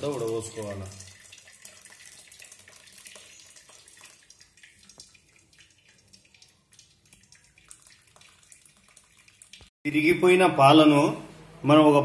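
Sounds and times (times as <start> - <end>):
liquid trickling: 0.0 - 9.7.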